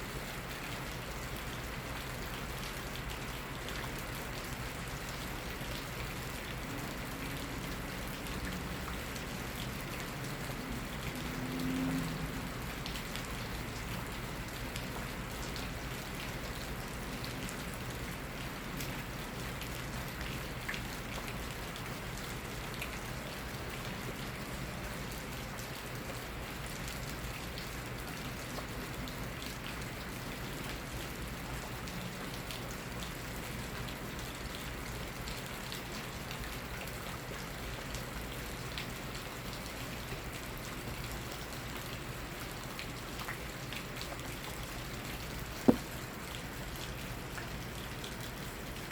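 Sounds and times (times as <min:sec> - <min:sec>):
raindrops ticking on surfaces: 0:00.0 - 0:48.9
steady rain hissing: 0:00.1 - 0:48.9.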